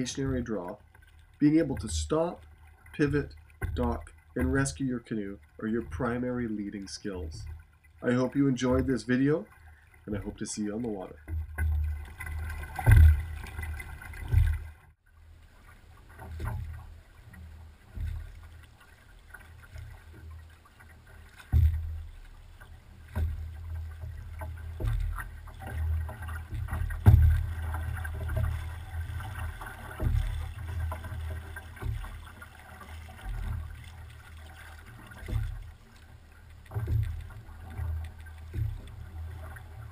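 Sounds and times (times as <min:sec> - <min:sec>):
paddles splashing in water: 0:00.0 - 0:39.9.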